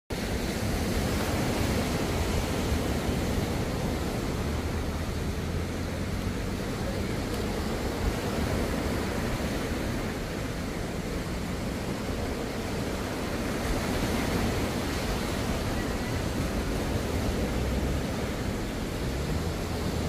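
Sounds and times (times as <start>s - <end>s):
waves washing up a beach: 0.1s - 20.0s
low surf rumble: 0.2s - 20.0s.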